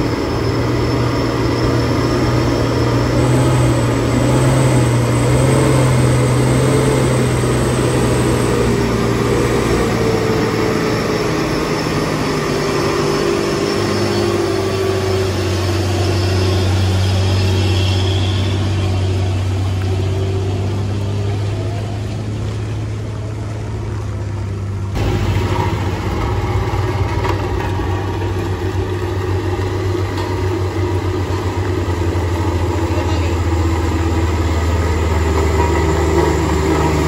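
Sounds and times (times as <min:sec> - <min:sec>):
diesel engine throbbing: 0:00.0 - 0:37.0
truck diesel engine passing: 0:00.0 - 0:37.0.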